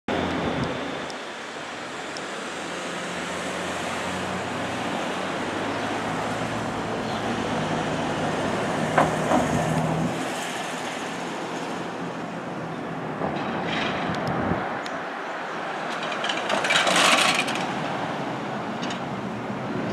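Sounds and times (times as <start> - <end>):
street traffic: 0.1 - 19.9.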